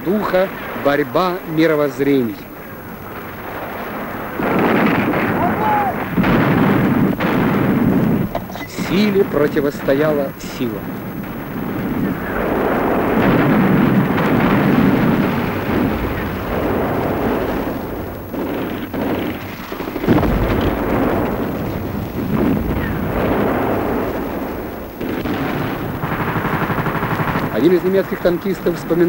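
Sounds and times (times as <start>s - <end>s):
artillery fire and explosions: 0.0s - 29.0s
heavy blast: 4.2s - 29.0s.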